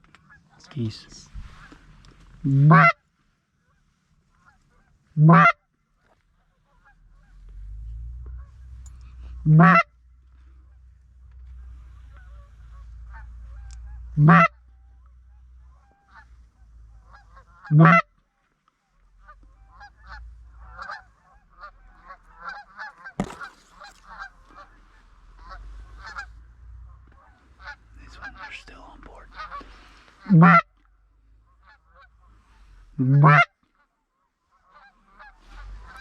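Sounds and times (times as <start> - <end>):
geese honking: 1.6 - 3.0, 3.7 - 5.6, 6.4 - 18.1, 19.0 - 33.8, 34.4 - 36.0.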